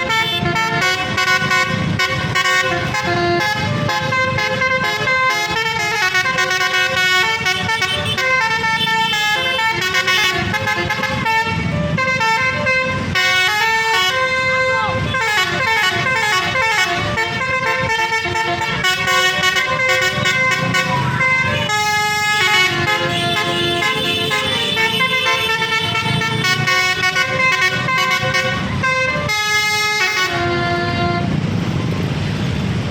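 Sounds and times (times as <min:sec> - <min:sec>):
musical air horn tune: 0:00.0 - 0:31.4
low engine rumble: 0:00.0 - 0:32.9.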